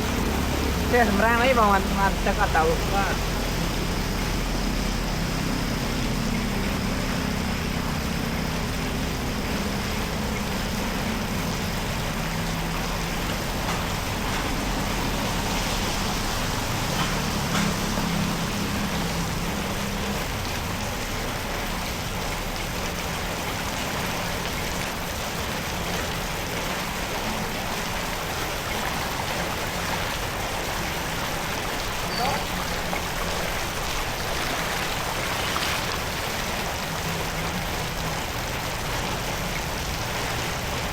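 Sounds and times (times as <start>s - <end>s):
water rushing into drain: 0.0s - 40.9s.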